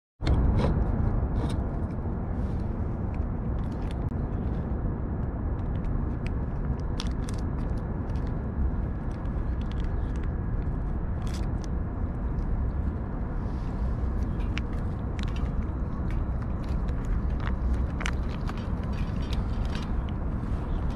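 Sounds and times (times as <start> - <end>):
low outdoor rumble: 0.2 - 20.9.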